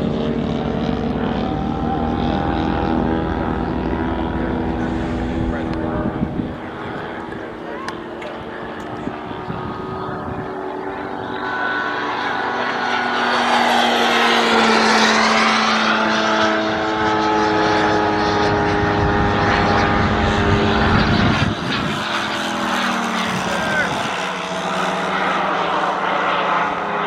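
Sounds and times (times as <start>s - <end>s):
model airplane engine droning: 0.0s - 27.0s.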